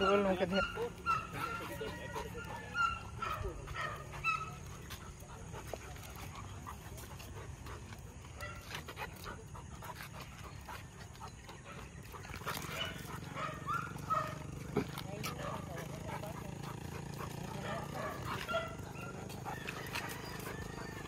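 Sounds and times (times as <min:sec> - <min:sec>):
faint dog sounds: 0:00.0 - 0:21.0
light scuffs and clicks: 0:02.5 - 0:21.0.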